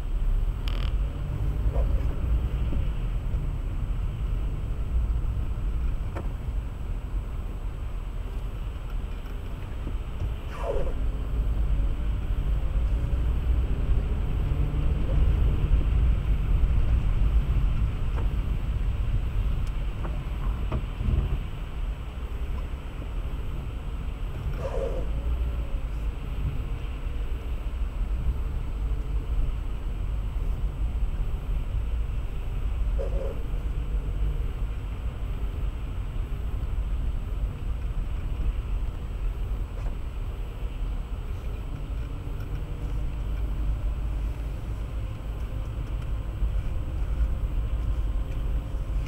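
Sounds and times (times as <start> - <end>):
car driving on road: 0.0 - 49.0.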